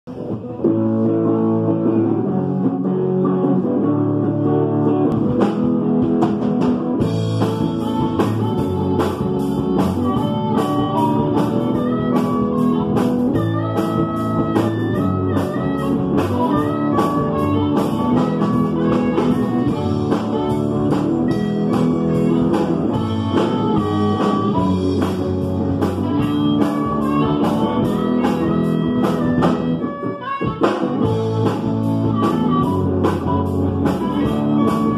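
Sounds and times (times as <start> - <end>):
live band playing: 0.1 - 34.9
cymbals and drum beat: 5.3 - 34.9.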